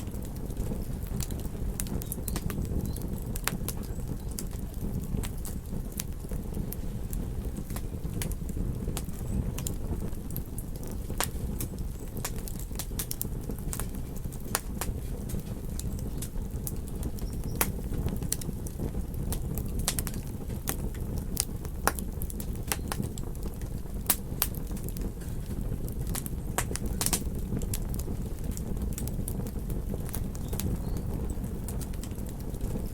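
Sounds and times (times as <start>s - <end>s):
campfire crackling and popping: 0.0s - 32.9s
low fire rumble: 0.0s - 32.9s.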